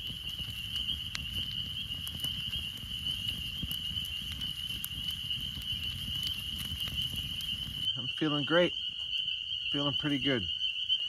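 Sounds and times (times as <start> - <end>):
campfire crackling and popping: 0.0 - 11.0
insects trilling: 0.0 - 11.0.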